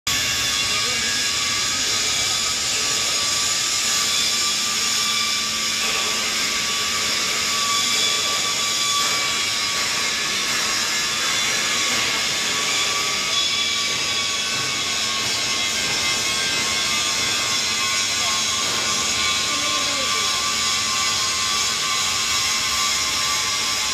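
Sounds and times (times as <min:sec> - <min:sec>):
high whining tones: 0:00.1 - 0:23.9
industrial machinery whirring: 0:00.1 - 0:23.9.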